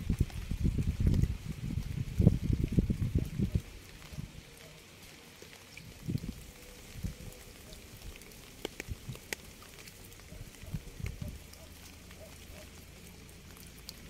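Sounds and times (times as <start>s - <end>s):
raindrops ticking: 0.0s - 14.0s
steady rain: 0.0s - 14.0s.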